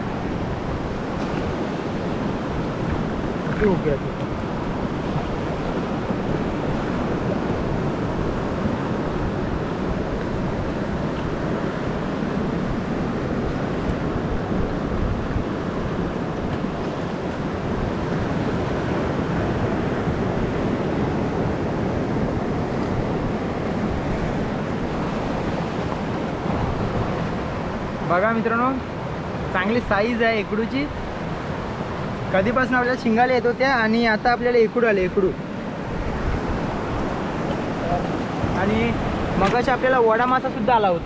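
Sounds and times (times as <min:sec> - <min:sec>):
sea surf rushing: 0:00.0 - 0:41.0
wind on microphone: 0:00.0 - 0:41.0.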